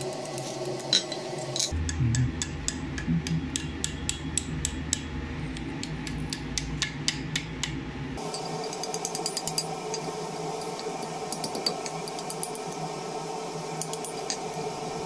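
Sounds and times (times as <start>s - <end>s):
hammer tapping hot steel on anvil: 0.0s - 12.8s.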